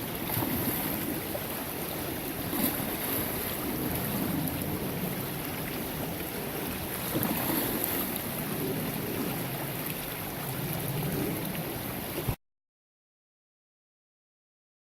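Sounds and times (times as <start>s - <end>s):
creek flowing: 0.0s - 12.4s
wind rumble on microphone: 0.0s - 12.4s.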